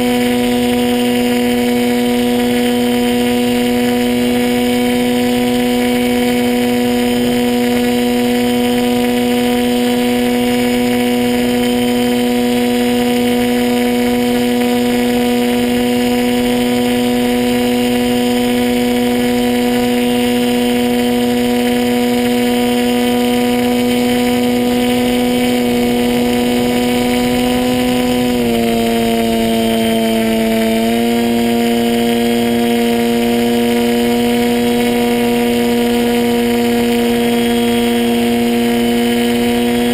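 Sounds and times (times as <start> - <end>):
model plane motor humming: 0.0 - 39.9.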